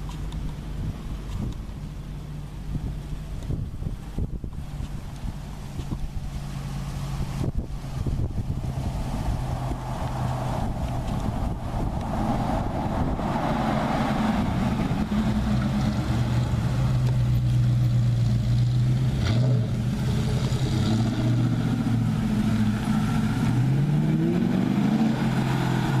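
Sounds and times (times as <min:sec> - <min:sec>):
car exhaust droning: 0:00.0 - 0:26.0.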